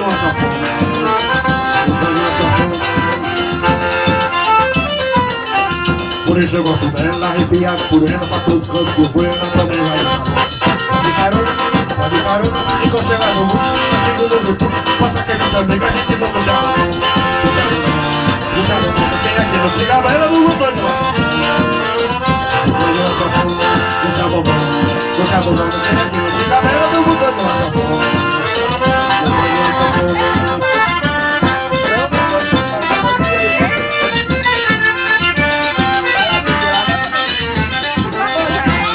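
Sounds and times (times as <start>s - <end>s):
accordion playing melody: 0.0s - 38.9s
steady percussion rhythm: 0.0s - 38.9s.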